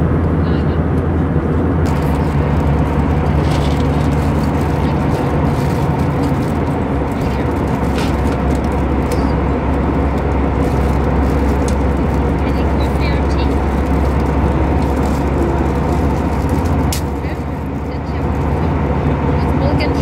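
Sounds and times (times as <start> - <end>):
constant low hum: 0.0 - 20.0
jet engine and airflow roar: 0.0 - 20.0.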